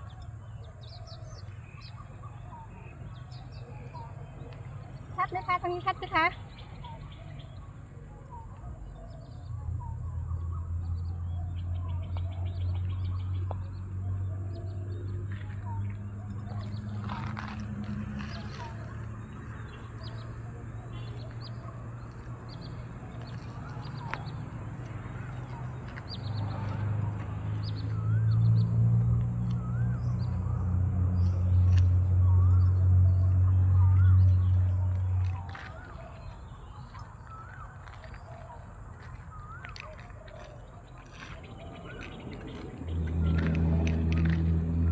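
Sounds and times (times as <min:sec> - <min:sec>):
birds chirping: 0:00.0 - 0:44.8
engine humming: 0:01.3 - 0:44.9.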